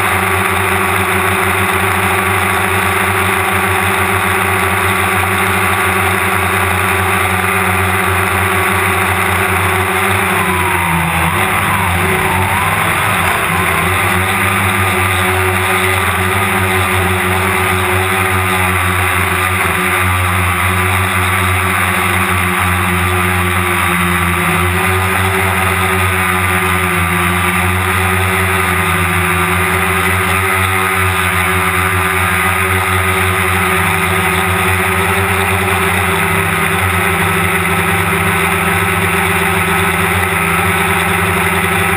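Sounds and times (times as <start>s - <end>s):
drone motors and propellers whining: 0.0s - 41.9s.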